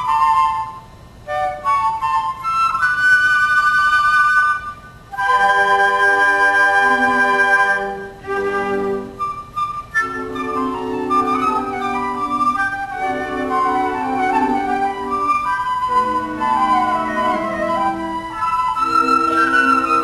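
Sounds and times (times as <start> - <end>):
flute ensemble playing: 0.0 - 20.0.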